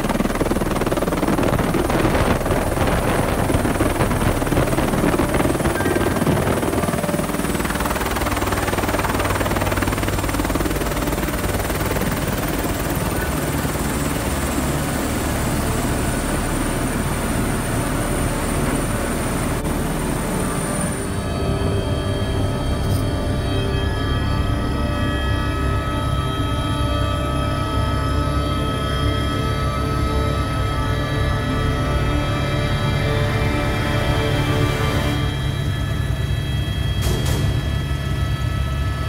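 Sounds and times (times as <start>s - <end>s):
helicopter rotor noise: 0.0s - 24.9s, 25.5s - 39.0s
high turbine whine: 0.0s - 39.0s.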